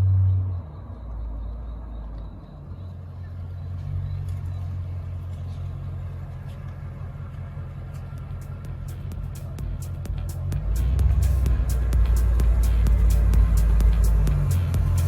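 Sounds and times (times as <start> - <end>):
car engine running: 0.8 - 15.0.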